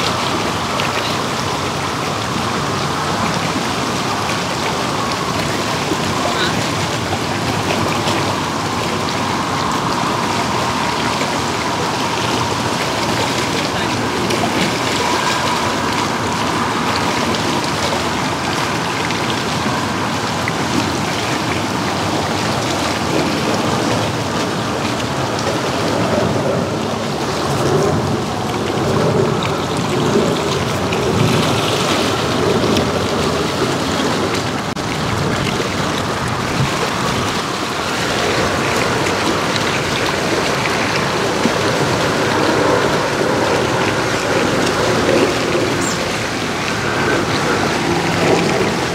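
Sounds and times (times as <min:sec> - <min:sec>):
choppy water splashing: 0:00.0 - 0:48.9
strong wind: 0:00.0 - 0:48.9.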